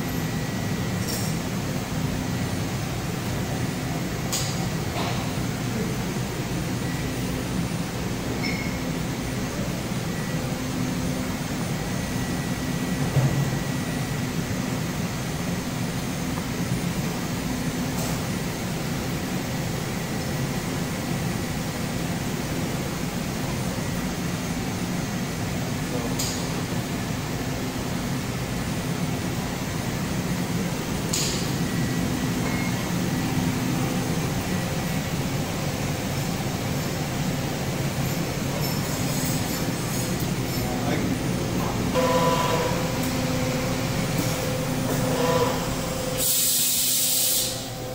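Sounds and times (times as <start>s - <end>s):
machinery hum: 0.0s - 47.9s.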